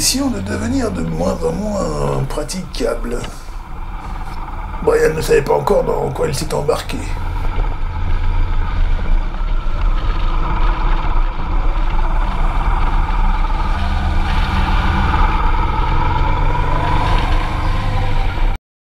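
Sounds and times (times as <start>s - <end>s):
higher engine tone: 0.0s - 18.6s
motorcycle engine running: 0.0s - 18.6s.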